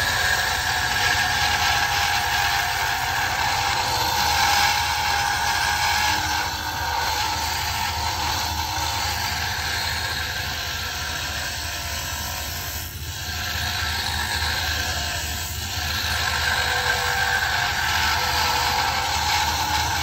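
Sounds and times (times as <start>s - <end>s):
hiss of wood shavings cut: 0.0s - 20.0s
wood lathe motor hum: 0.0s - 20.0s.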